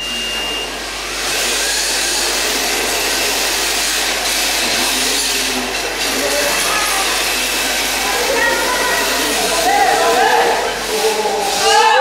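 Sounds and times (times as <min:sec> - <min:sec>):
rc car motors whining: 0:00.0 - 0:12.0
tyres sliding on track: 0:01.1 - 0:12.0.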